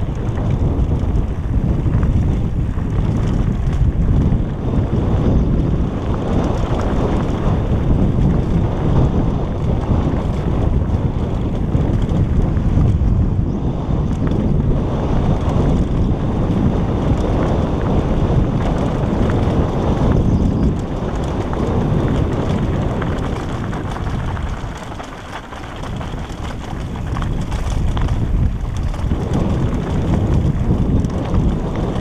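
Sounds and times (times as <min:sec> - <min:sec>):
bike tyres rattling over stones: 0:00.0 - 0:32.0
wind buffeting microphone: 0:00.0 - 0:32.0.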